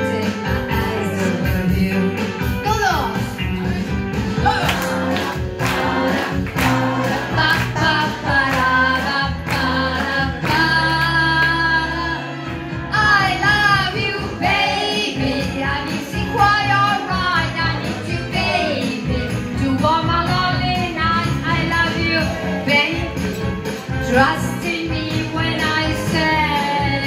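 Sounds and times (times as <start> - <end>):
woman singing into microphone: 0.0 - 2.6, 3.4 - 23.2, 24.0 - 27.0
music with steady beat: 0.0 - 27.0.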